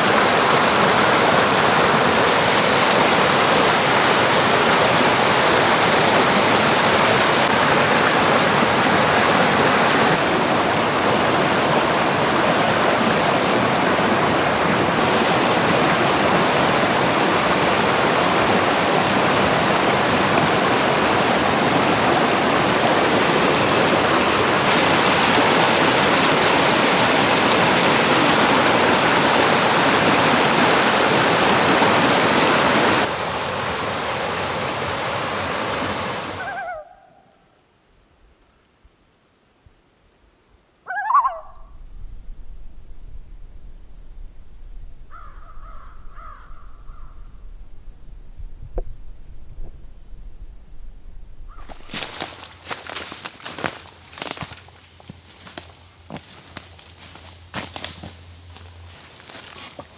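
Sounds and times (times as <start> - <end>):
rushing water: 0.0 - 36.8, 41.2 - 54.6.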